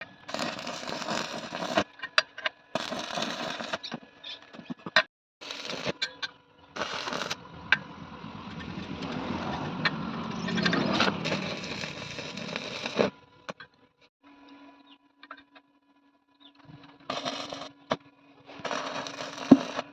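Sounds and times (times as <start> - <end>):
metalworking noise: 0.3 - 13.8, 16.7 - 19.9.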